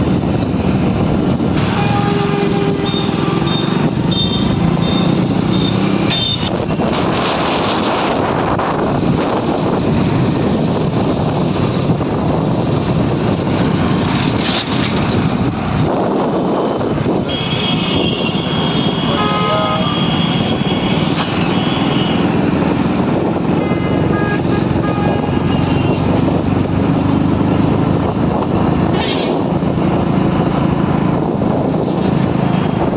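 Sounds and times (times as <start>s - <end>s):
vehicle road noise: 0.0s - 32.9s
wind on microphone: 6.4s - 32.9s.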